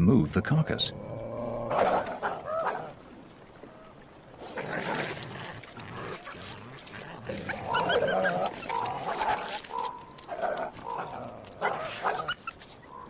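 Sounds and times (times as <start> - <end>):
coyotes snarling and yelping: 1.1 - 13.0.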